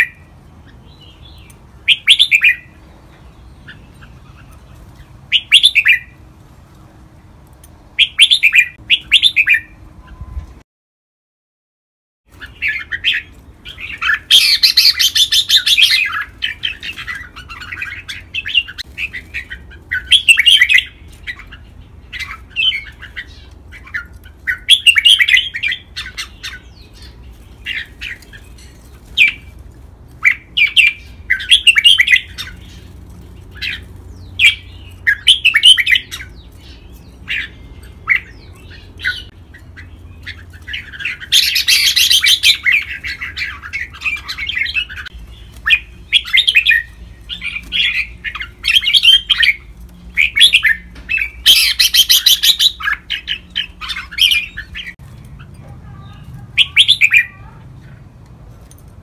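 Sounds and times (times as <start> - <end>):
bird chattering song: 0.0 - 6.2, 7.9 - 10.4, 12.3 - 29.6, 30.2 - 58.1.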